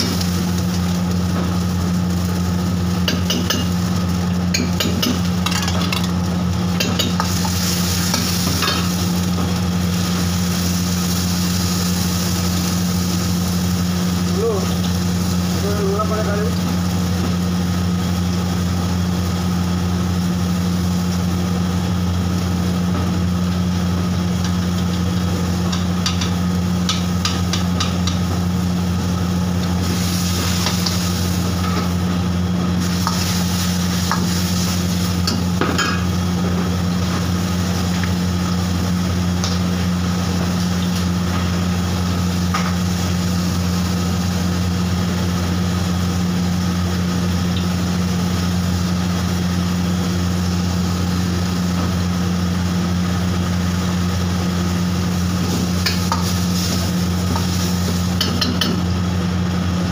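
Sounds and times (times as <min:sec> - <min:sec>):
sauce sizzling in a wok: 0:00.0 - 0:59.9.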